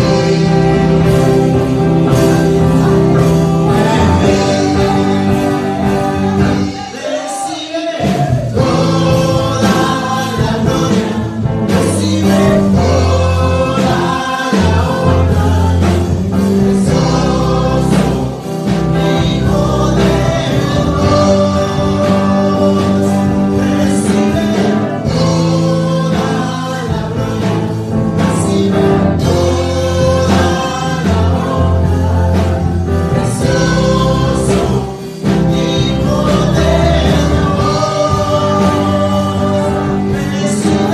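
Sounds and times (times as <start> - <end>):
instrumental accompaniment with bass: 0.0 - 7.3, 8.0 - 40.9
woman and man singing: 0.0 - 40.9.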